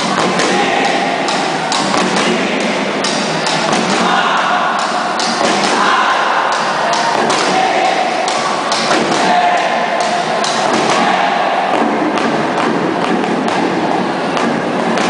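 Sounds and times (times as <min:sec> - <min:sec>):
crowd shouting and cheering: 0:00.0 - 0:15.0
drums beating steady rhythm: 0:00.0 - 0:15.0.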